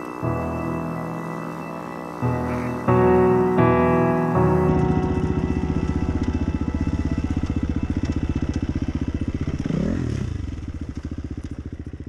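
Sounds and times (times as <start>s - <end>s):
dirt bike engine revving: 2.1s - 12.0s.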